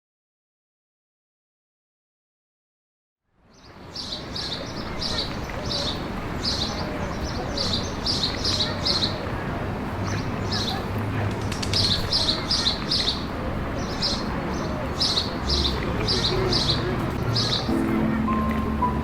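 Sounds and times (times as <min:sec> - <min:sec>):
steady background noise: 0:03.6 - 0:19.0.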